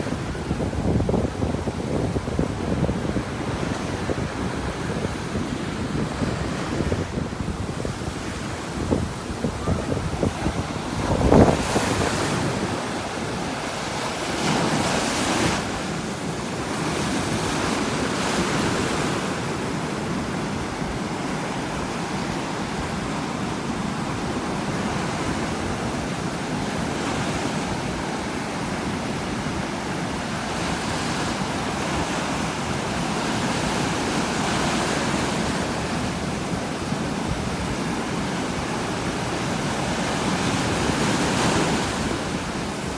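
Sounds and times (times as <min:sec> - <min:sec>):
ocean surf breaking: 0:00.0 - 0:42.9
wind on microphone: 0:00.0 - 0:42.9.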